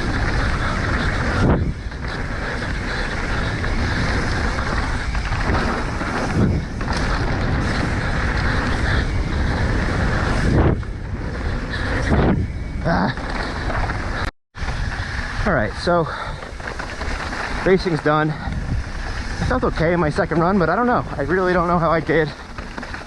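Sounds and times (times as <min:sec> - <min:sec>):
wind rushing over microphone: 0:00.0 - 0:22.5
mountain bike rumbling and rattling: 0:00.0 - 0:23.0.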